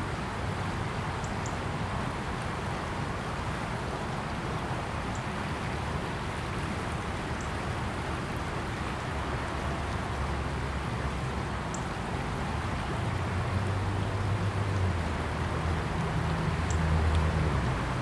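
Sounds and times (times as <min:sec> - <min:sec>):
river rushing over shallows: 0:00.0 - 0:18.0.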